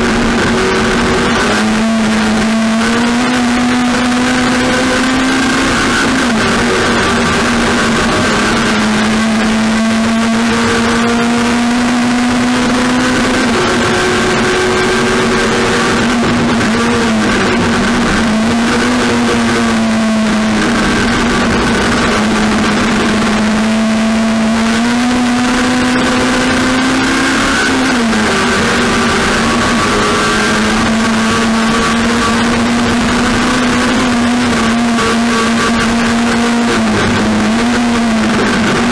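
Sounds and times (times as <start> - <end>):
race car engine revving high: 0.0 - 38.9.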